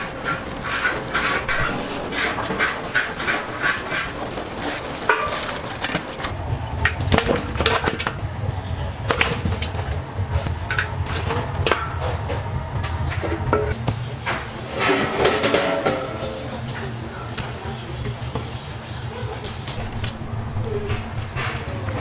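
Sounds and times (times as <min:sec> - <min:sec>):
kitchen utensils knocking and clattering: 0:00.0 - 0:08.3, 0:09.1 - 0:18.6.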